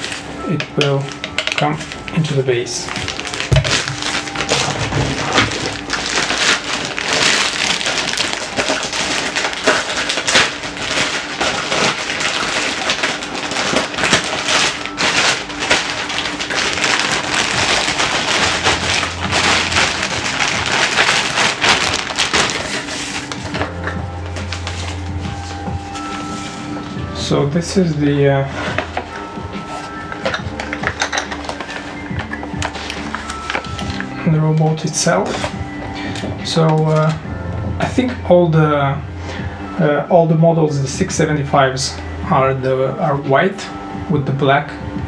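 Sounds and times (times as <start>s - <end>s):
packaging crinkling and rustling: 0.0s - 38.2s.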